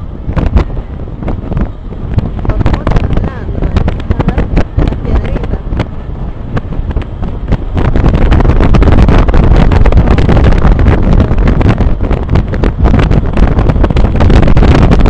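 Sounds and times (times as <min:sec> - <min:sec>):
skateboard wheels rolling on asphalt: 0:00.0 - 0:15.0
wind buffeting microphone: 0:00.0 - 0:15.0.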